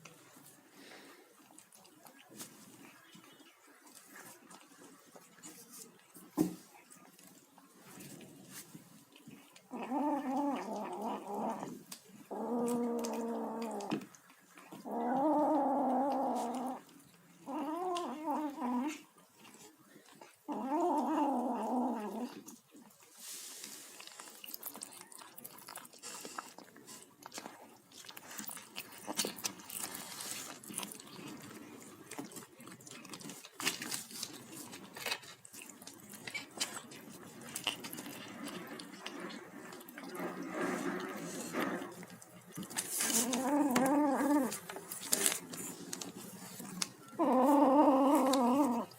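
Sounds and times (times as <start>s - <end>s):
kitten chewing: 0.0s - 48.9s.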